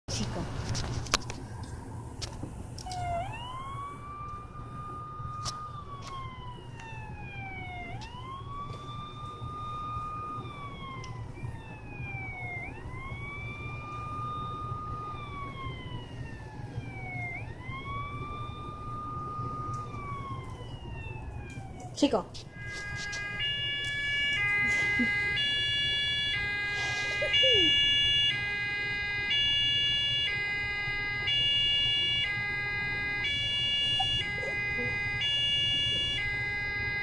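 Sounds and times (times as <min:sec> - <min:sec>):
siren wailing: 0:02.8 - 0:37.0.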